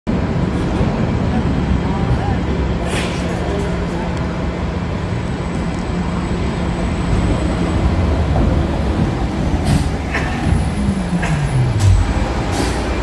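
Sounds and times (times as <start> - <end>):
bus rumbling past: 0.1 - 13.0.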